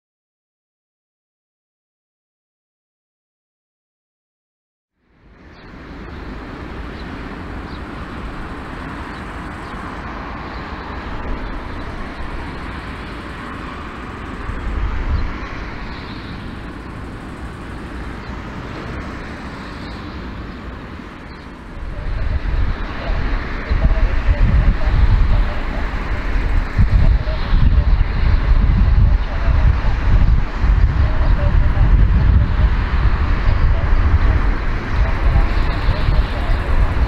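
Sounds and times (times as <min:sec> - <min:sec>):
jet engines idling rumble and hiss: 0:05.0 - 0:37.0.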